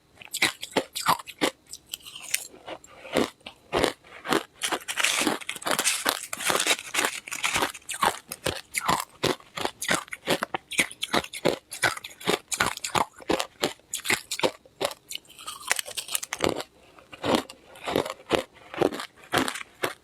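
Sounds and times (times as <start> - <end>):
ice cubes crunched between teeth: 0.4 - 2.5, 3.8 - 16.7, 18.8 - 20.0.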